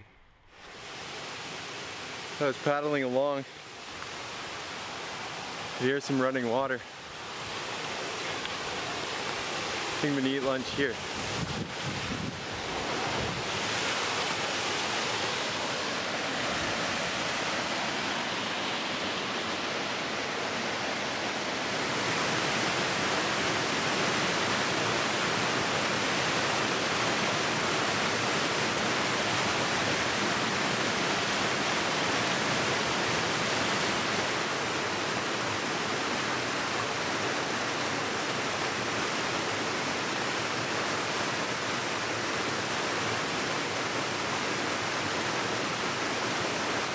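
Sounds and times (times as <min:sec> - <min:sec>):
waterfall rushing over rocks: 0:00.6 - 0:46.9.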